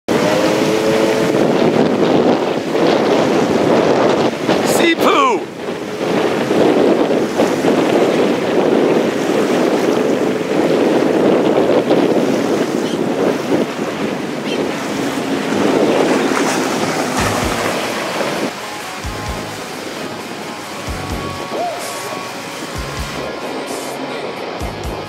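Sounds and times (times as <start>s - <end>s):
jet ski engines droning: 0.1s - 25.0s
wash of waves: 0.1s - 25.0s
wind buffeting microphone: 0.1s - 25.0s.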